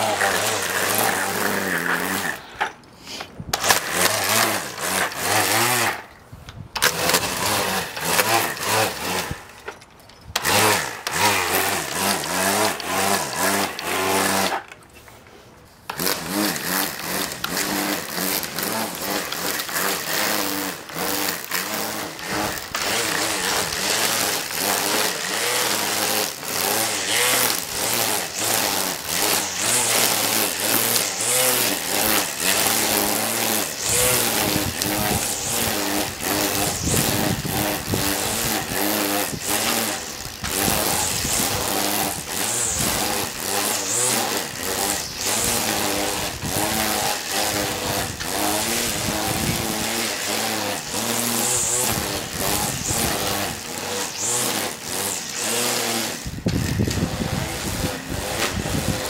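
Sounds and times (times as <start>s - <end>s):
string trimmer cutting grass: 0.0s - 59.0s.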